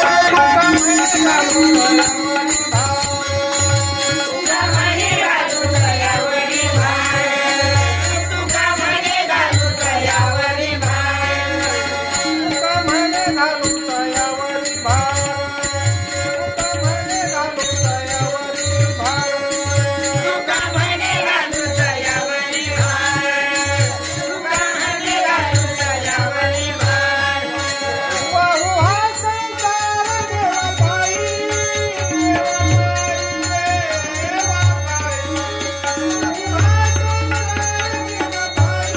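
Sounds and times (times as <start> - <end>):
small cymbals jingling: 0.0 - 38.9
voices singing devotional song: 0.0 - 38.9.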